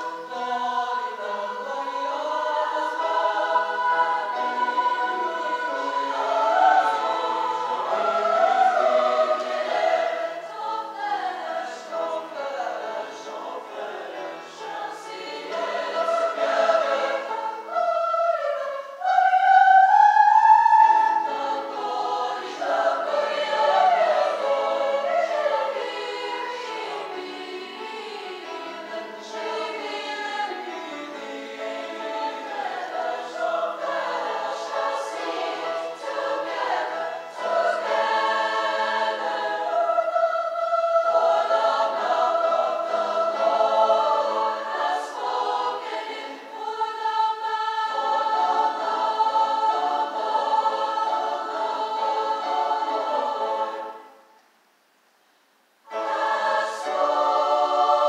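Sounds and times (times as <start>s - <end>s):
choir singing in harmony: 0.0s - 54.4s, 55.9s - 58.0s.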